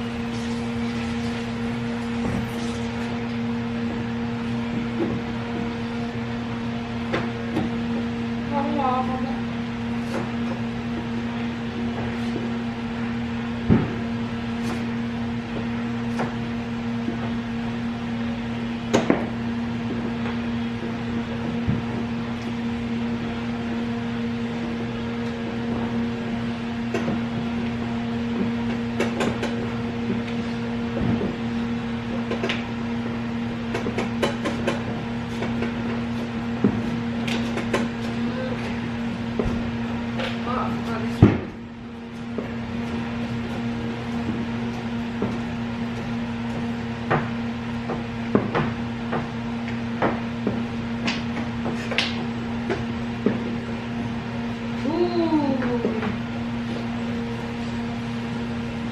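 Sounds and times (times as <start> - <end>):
electrical hum: 0.0 - 58.9.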